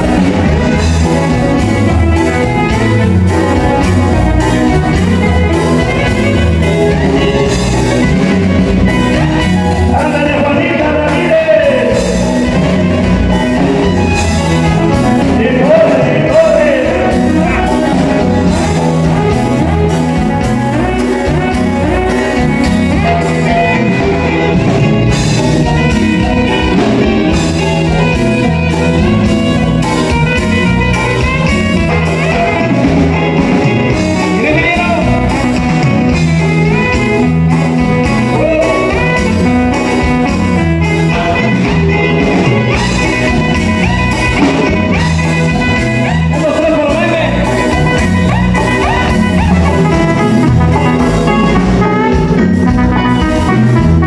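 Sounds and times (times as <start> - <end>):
bass: 0.0 - 54.0
congas: 0.0 - 54.0
drum kit: 0.0 - 54.0
electric guitar: 0.0 - 54.0
keyboard: 0.0 - 54.0
live band playing dance music: 0.0 - 54.0.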